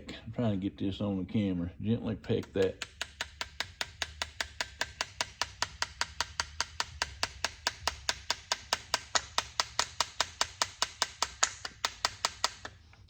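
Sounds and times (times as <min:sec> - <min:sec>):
rapid light hammer taps: 0:02.3 - 0:13.0.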